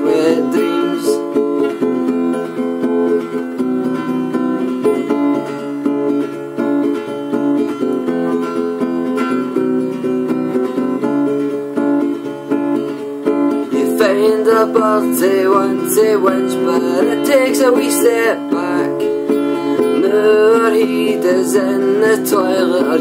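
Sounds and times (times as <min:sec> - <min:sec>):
acoustic guitar: 0:00.0 - 0:23.0.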